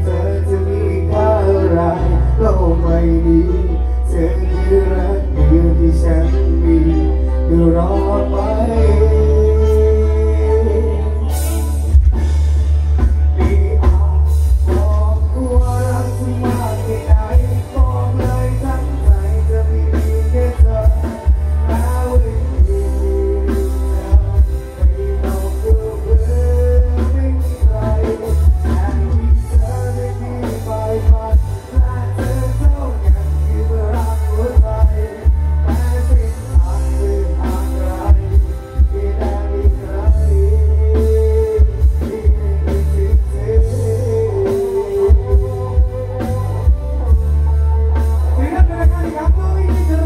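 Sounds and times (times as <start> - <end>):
live band over loudspeakers: 0.0 - 50.0.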